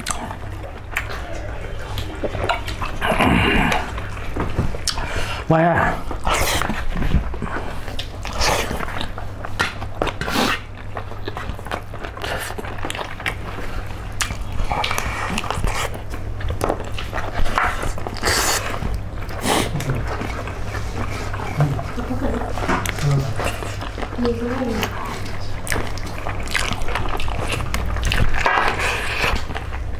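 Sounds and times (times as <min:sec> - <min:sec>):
chewing and crunching: 0:00.0 - 0:29.9
steady low hum: 0:00.0 - 0:29.9.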